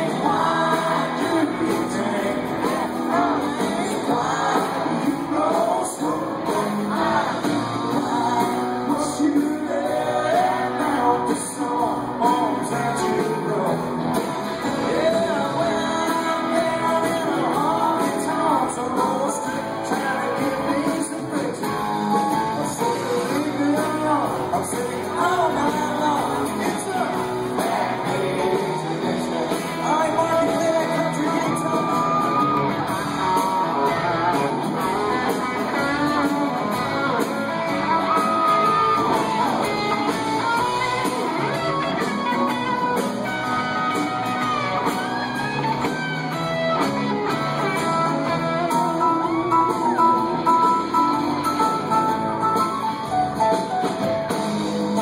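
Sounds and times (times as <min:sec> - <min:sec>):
man singing lead vocals: 0:00.0 - 0:45.9
live country rock band: 0:00.0 - 0:55.0.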